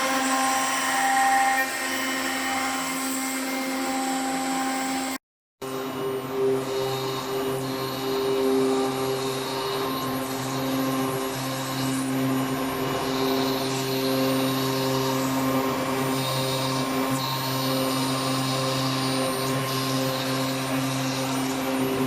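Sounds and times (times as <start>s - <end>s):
router machine hum: 0.0s - 22.0s.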